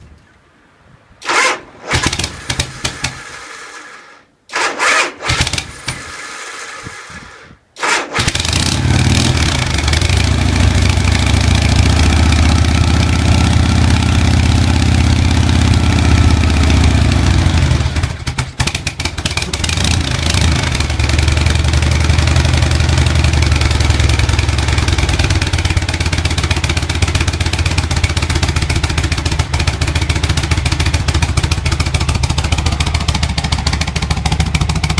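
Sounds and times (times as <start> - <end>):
motorcycle engine starting and running: 1.2 - 34.9.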